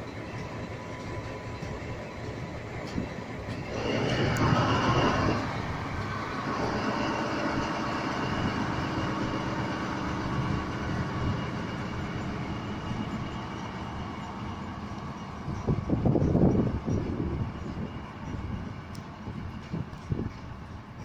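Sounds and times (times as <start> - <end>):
diesel locomotive engine droning: 0.0 - 21.0.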